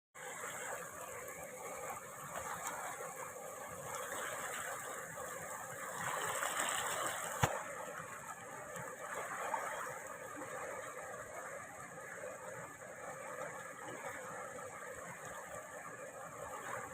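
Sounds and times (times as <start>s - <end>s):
running water flowing: 0.2s - 16.9s.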